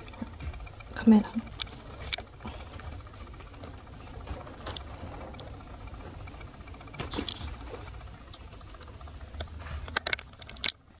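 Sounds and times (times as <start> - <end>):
clicks and rustles: 0.0 - 11.0.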